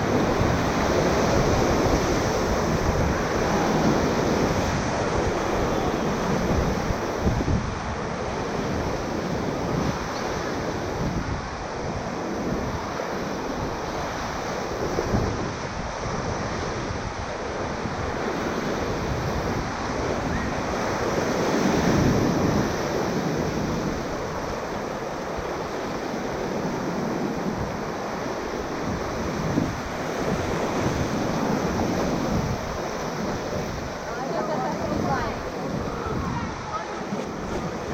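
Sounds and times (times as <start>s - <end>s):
rushing whitewater: 0.0s - 37.9s
wind buffeting microphone: 0.0s - 37.9s.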